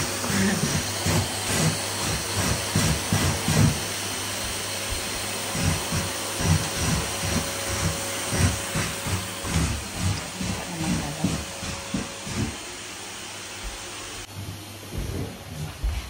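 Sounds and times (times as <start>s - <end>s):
vacuum cleaner humming: 0.0s - 16.0s.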